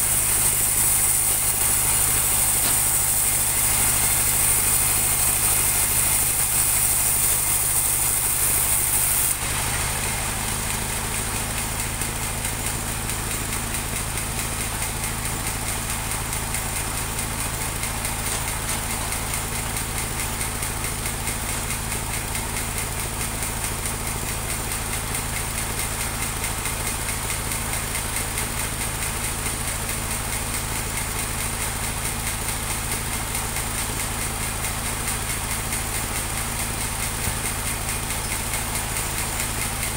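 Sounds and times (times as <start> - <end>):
sawmill engine idling: 0.0 - 39.9.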